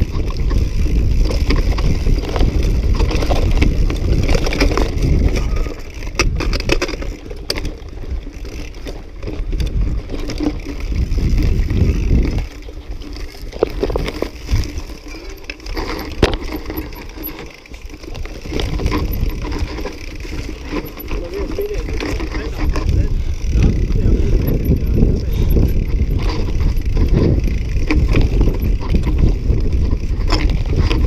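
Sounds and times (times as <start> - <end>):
bike clicks and rattles: 0.0 - 31.0
bike tyres over dirt and stones: 0.0 - 31.0
wind buffeting microphone: 0.0 - 31.0.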